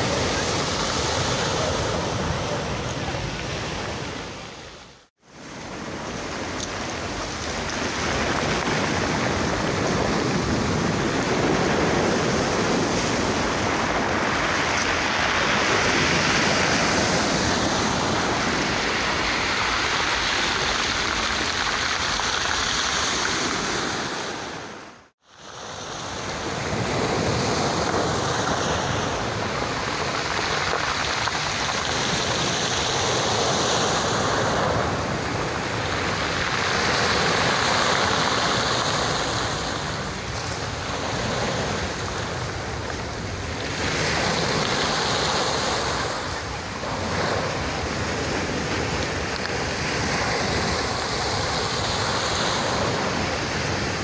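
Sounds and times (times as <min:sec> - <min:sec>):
surf breaking on pebble beach: 0:05.4 - 0:24.8, 0:25.4 - 0:54.0.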